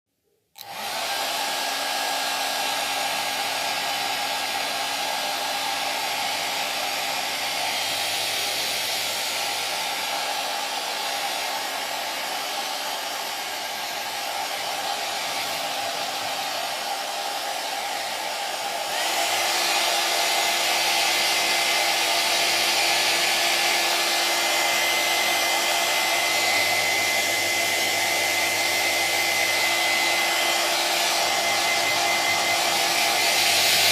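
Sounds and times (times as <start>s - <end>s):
hair dryer running: 0.5s - 33.9s.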